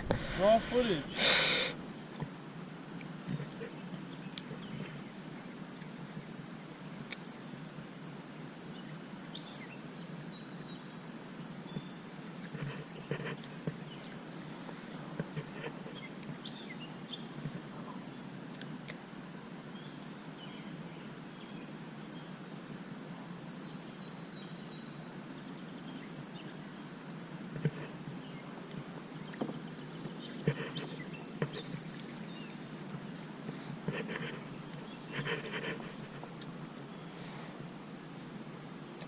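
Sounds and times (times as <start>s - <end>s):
low rushing background noise: 0.0s - 39.0s.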